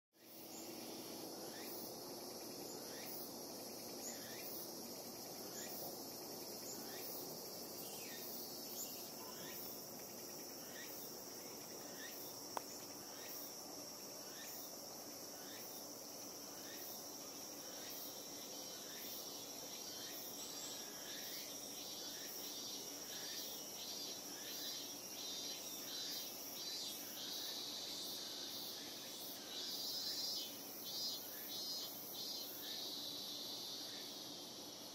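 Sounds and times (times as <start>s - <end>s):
fast pulsing insect call: 0.2s - 34.9s
insect chirping calls: 0.2s - 34.9s
insects droning: 0.2s - 34.9s.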